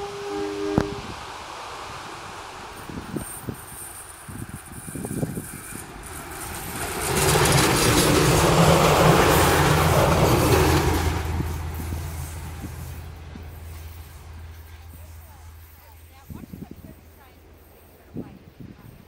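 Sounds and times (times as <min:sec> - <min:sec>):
railcar engine hum: 0:00.0 - 0:19.0
train wheels on rails: 0:00.0 - 0:19.0.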